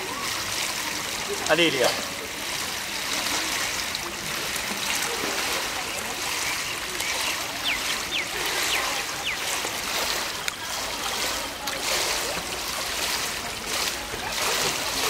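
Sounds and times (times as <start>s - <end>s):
water splashing in pool: 0.0s - 15.0s.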